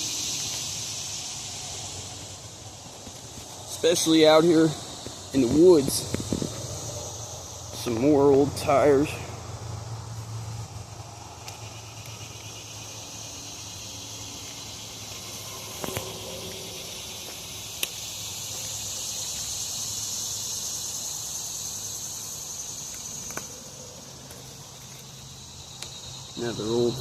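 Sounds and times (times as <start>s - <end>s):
insects buzzing drone: 0.0s - 27.0s.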